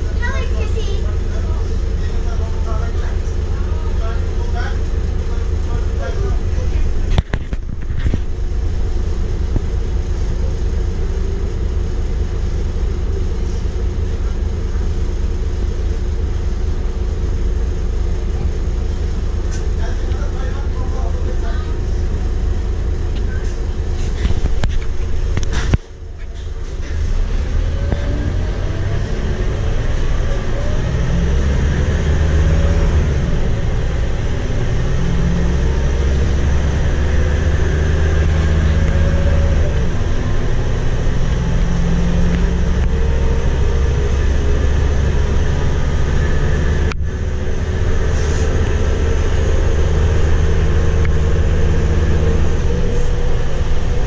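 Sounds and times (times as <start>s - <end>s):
diesel bus engine: 0.0s - 54.0s
road noise: 0.0s - 54.0s.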